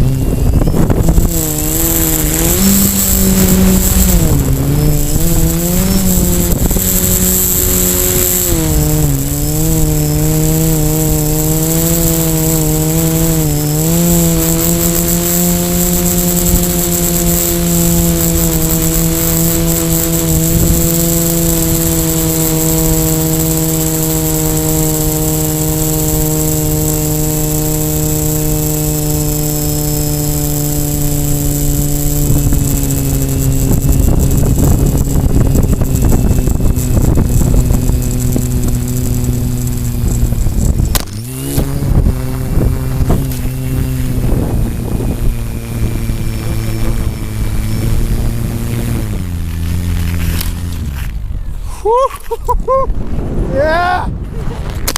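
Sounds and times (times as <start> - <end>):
quadcopter propellers buzzing: 0.0 - 54.9.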